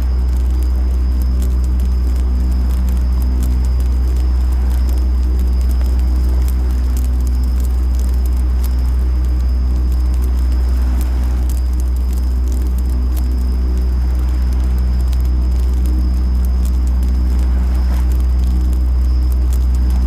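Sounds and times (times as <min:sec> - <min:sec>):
campfire crackling and popping: 0:00.0 - 0:20.0
crickets ringing: 0:00.0 - 0:20.0
deep rumble: 0:00.0 - 0:20.0.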